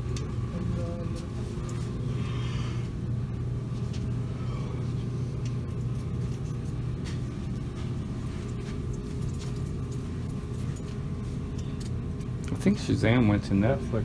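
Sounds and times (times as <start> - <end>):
low droning store hum: 0.0 - 14.0.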